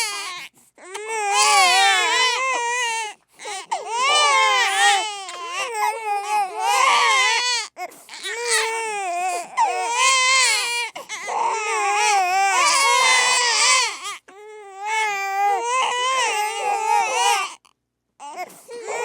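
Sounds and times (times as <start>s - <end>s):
babies crying: 0.0s - 17.6s, 18.2s - 19.0s.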